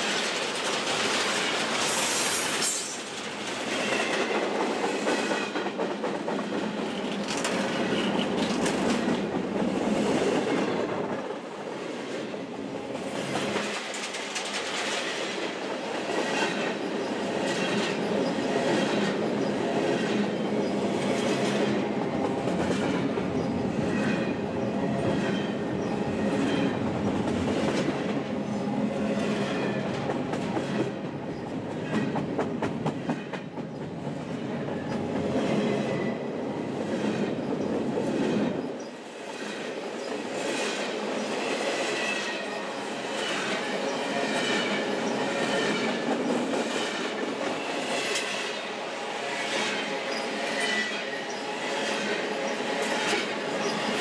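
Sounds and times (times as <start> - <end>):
train rumble: 0.0 - 54.0
wheels clickety-clack on rail joints: 0.0 - 54.0.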